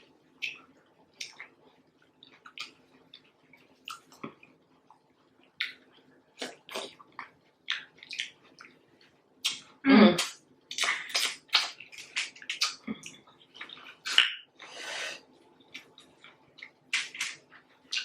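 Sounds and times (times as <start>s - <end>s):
wet chewing and lip-smacking: 0.3s - 18.0s.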